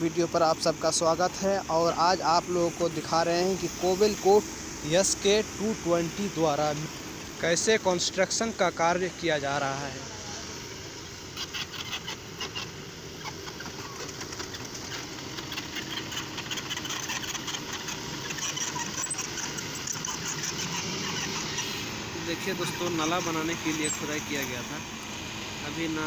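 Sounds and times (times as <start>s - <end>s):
excavator diesel engine: 0.0s - 26.0s.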